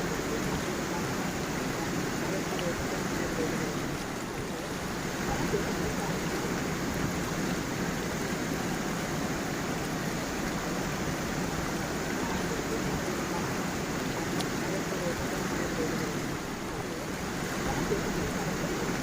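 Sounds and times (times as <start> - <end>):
small waterfall: 0.0 - 19.0
stream flowing over stones: 0.0 - 19.0.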